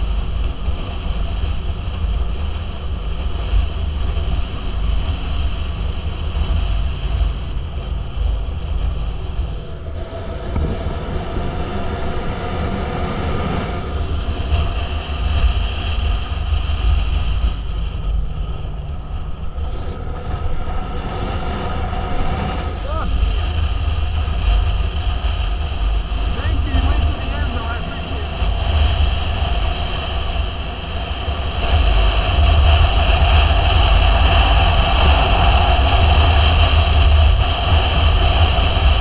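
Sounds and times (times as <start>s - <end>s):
motorcycle engine running: 0.0s - 39.0s
wind rumble on microphone: 0.0s - 39.0s.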